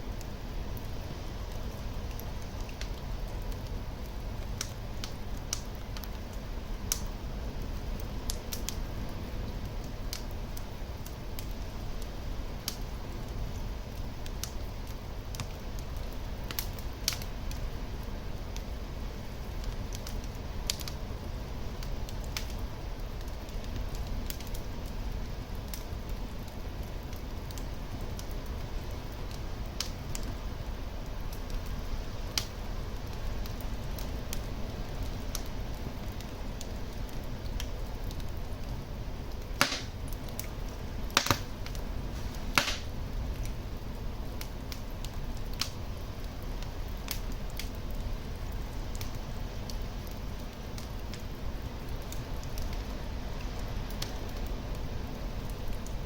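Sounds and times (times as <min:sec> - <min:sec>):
fire crackling and popping: 0:00.0 - 0:56.0
fire flames rumbling: 0:00.0 - 0:56.0.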